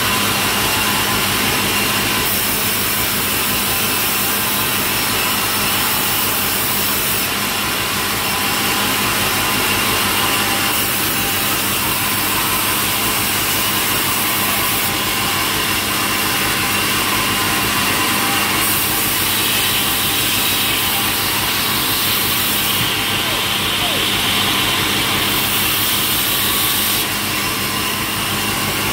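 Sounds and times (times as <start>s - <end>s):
sawmill saw cutting log: 0.0s - 28.9s.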